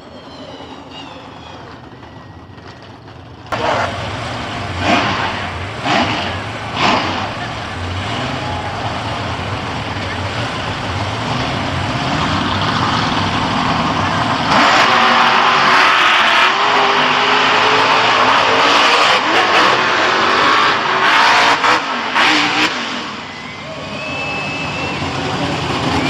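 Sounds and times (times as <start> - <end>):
monster truck engine revving: 0.1 - 26.0.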